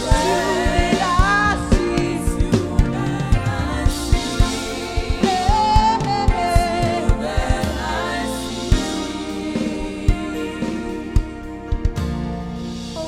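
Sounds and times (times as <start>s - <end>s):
gospel worship music: 0.0s - 13.0s.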